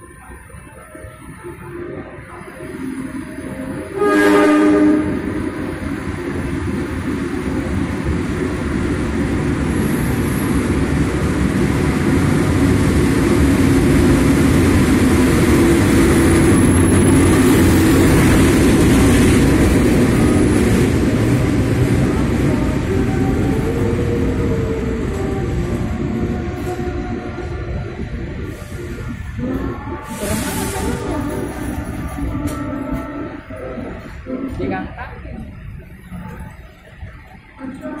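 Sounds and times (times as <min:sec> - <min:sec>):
diesel locomotive engine: 0:00.0 - 0:38.0
train wheels on rails: 0:02.4 - 0:38.0.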